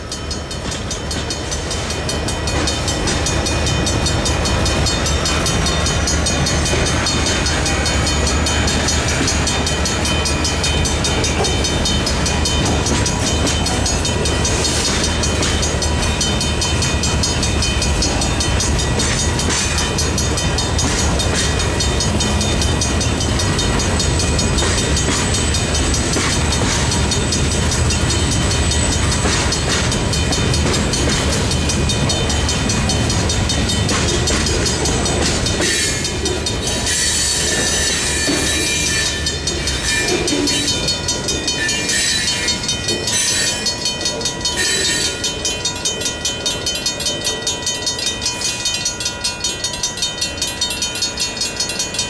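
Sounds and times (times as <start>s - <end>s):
crossing bell ringing: 0.0s - 52.0s
freight train rolling past: 0.0s - 52.0s
wheels clattering over rail joints: 0.2s - 50.2s.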